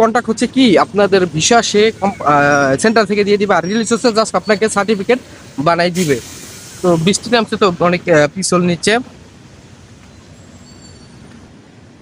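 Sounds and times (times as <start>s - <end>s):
tyres on a wet road: 0.0s - 12.0s.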